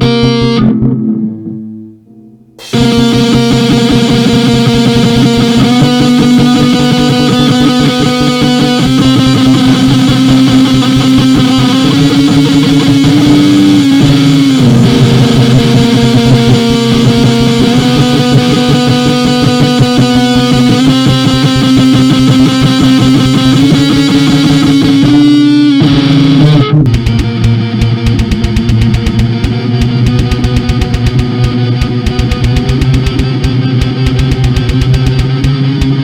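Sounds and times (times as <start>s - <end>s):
distorted electric guitar music: 0.0s - 36.0s.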